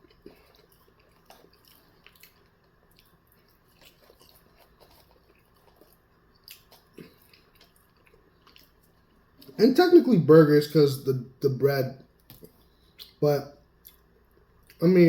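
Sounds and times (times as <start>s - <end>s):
person chewing food: 0.0s - 9.6s, 12.1s - 14.8s.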